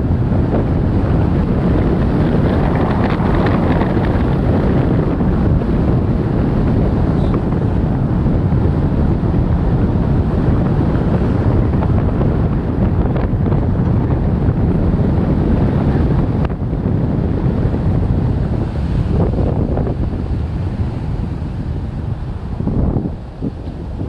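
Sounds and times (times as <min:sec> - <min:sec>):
car road noise: 0:00.0 - 0:24.0
wind buffeting microphone: 0:00.0 - 0:24.0.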